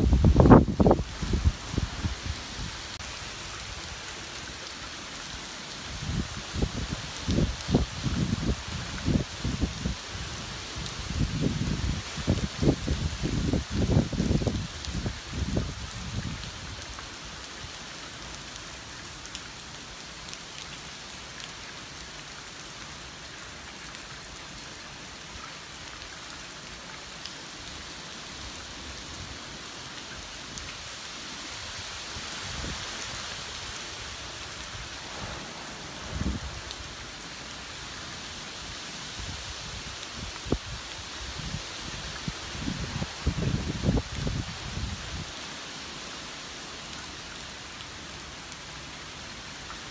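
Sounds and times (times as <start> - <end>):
heavy rain hissing: 0.0 - 49.9.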